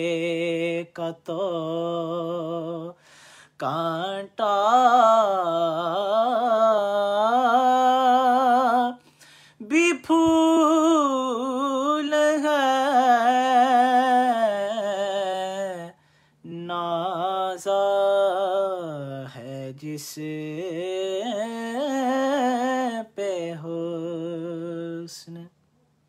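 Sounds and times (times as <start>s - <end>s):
man singing unaccompanied: 0.0s - 25.6s.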